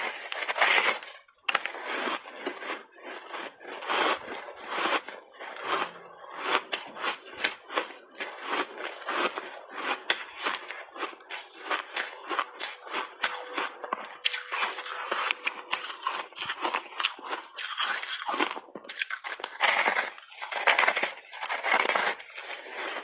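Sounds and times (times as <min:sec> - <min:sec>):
ice crunching between teeth: 0:00.0 - 0:23.0.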